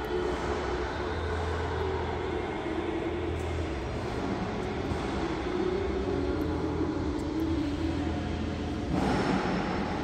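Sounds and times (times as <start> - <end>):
low hum: 0.0 - 10.0
machine drone echoing: 0.0 - 10.0.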